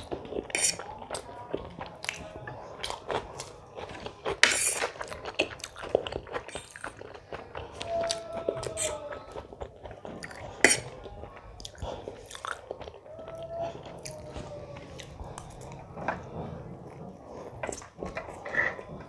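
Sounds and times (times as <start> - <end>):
chewing and biting food: 0.0 - 19.0.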